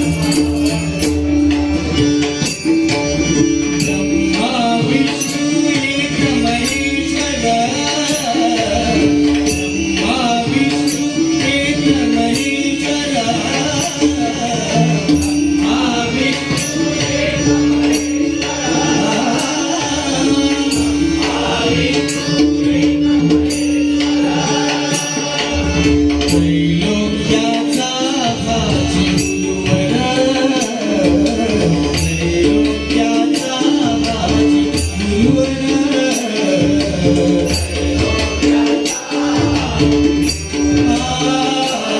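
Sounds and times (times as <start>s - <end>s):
hand drums: 0.0s - 41.9s
jingling hand cymbals: 0.0s - 41.9s
person singing devotional song: 3.4s - 41.9s.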